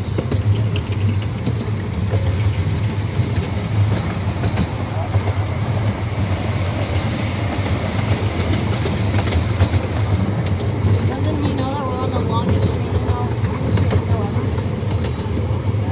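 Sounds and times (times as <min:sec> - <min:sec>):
miniature train hum and rumble: 0:00.0 - 0:15.9
wheels clicking on track: 0:00.0 - 0:15.9.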